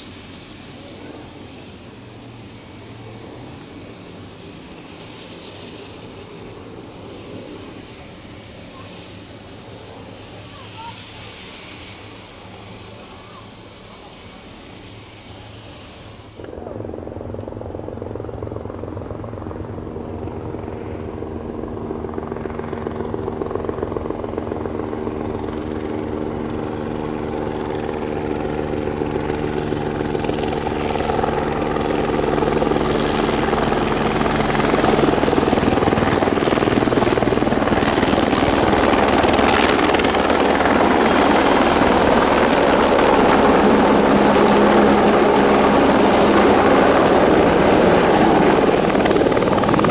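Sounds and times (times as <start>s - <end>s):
helicopter rotor: 0.0s - 49.9s
high turbine whine: 0.0s - 49.9s.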